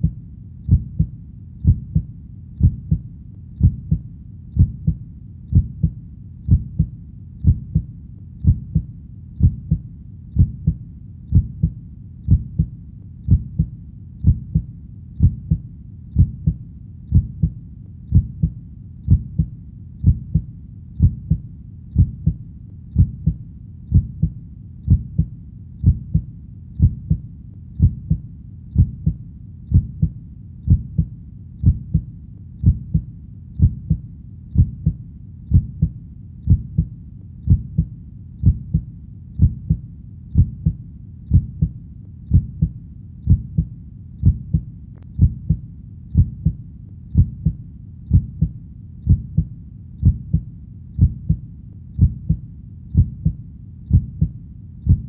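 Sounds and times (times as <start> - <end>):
faint low rumble: 0.0 - 55.0
heartbeat lub-dub: 0.0 - 55.0.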